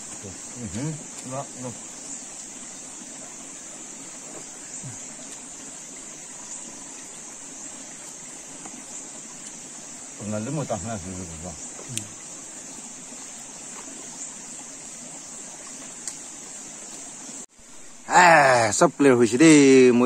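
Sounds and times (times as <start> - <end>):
high-pitched drone of insects: 0.0 - 20.0.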